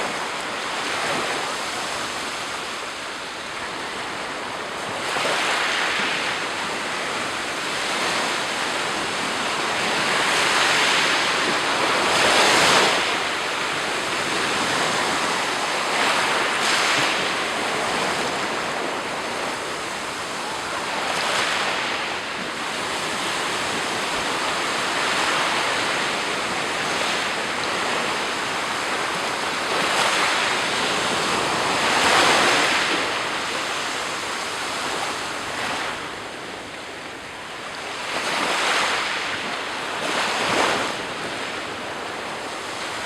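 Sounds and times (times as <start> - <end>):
waves breaking on shore: 0.0 - 43.0.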